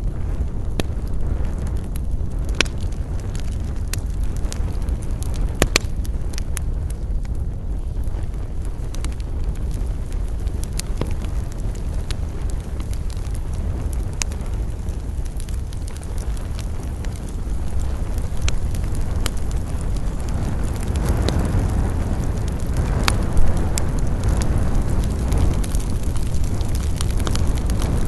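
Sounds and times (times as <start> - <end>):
fire low rumble: 0.0 - 28.0
wood crackling and popping: 0.0 - 28.0.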